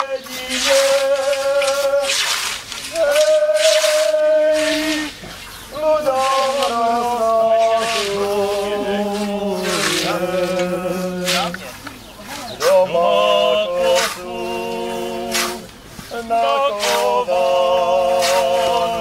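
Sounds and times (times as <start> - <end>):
men singing unaccompanied: 0.0 - 11.8, 12.5 - 19.0
scythe blades swishing through grass: 0.3 - 11.8, 13.8 - 18.8.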